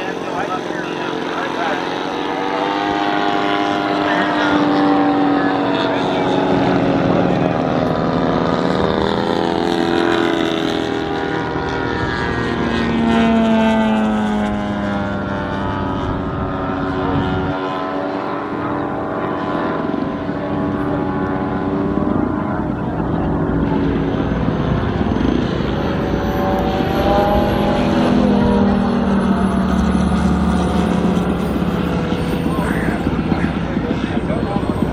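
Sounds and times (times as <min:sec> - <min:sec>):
model plane radial engine: 0:00.0 - 0:34.9.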